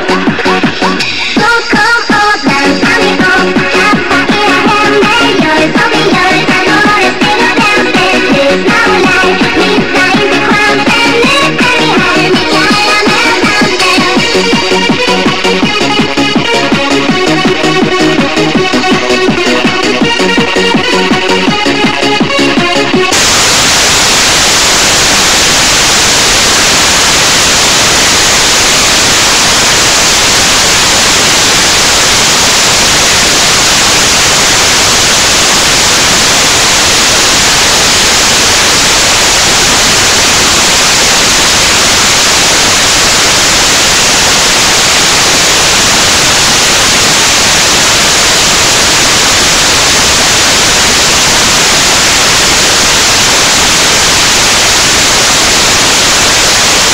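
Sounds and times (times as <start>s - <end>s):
static hiss: 0.0s - 56.9s.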